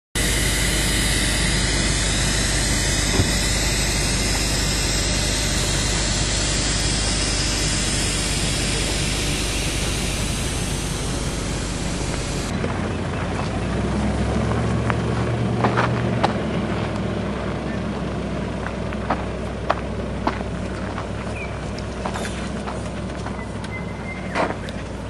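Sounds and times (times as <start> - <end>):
vehicles driving on dirt track: 0.2 - 25.0.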